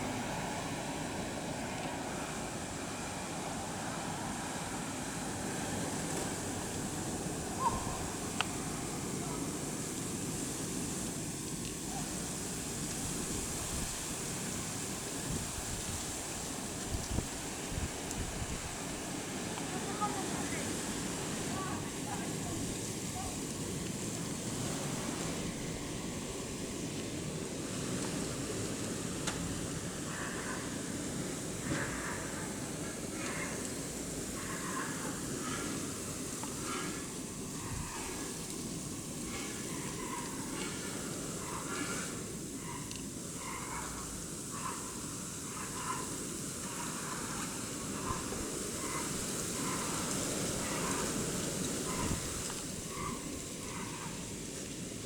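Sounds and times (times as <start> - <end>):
blizzard wind: 0.0 - 55.0.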